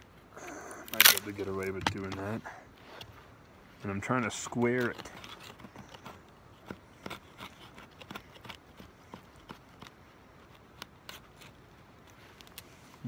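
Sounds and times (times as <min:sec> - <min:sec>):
knife scraping wood: 0:00.4 - 0:13.0.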